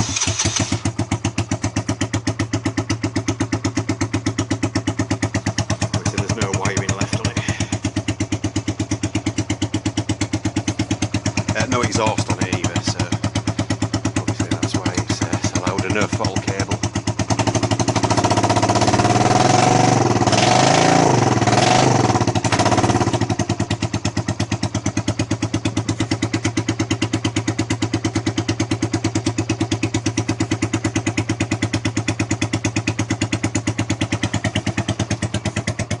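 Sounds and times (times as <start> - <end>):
motorcycle engine revving and idling: 0.0 - 36.0.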